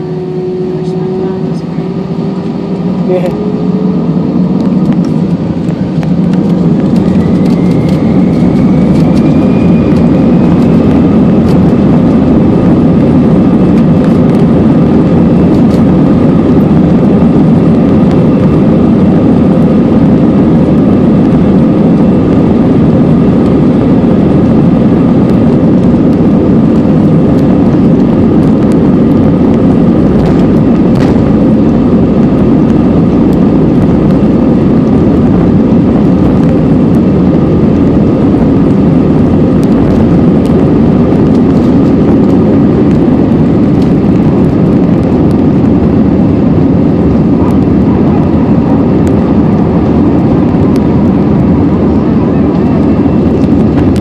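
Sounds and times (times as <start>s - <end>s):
jet engine whine rising: 0.0s - 54.0s
jet engines rumbling: 0.0s - 54.0s.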